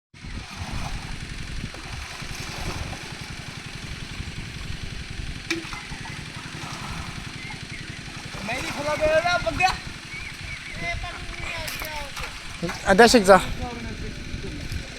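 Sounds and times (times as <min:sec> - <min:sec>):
water pump engine running: 0:00.2 - 0:14.9
water hissing: 0:00.3 - 0:13.8.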